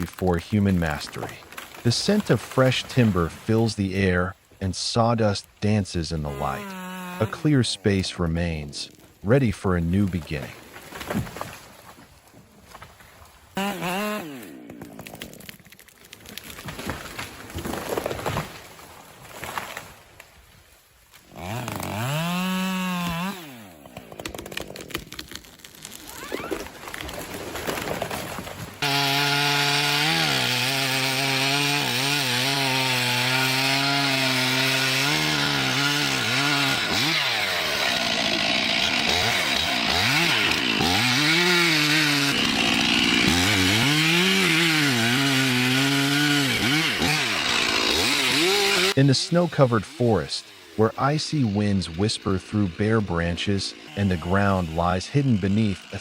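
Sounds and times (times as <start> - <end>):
chainsaw cutting wood: 0.0 - 4.2, 5.6 - 7.6, 13.6 - 20.0, 21.1 - 56.0.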